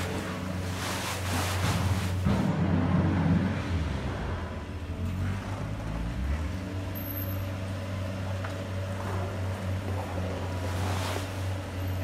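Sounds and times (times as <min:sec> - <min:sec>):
model track loader engine drone: 0:02.2 - 0:12.0.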